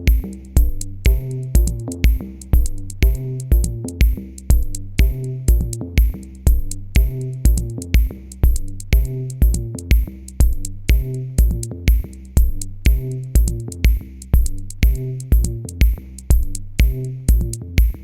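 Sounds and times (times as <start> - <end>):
electronic music with drum beat: 0.0 - 18.0.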